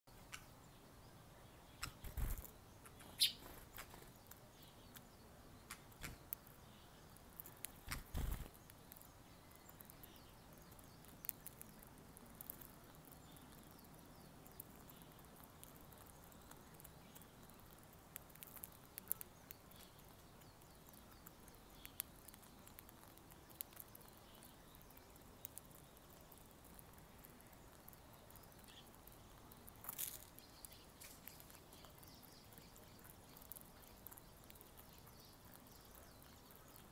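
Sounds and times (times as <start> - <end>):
beaks pecking seed: 0.1 - 36.9.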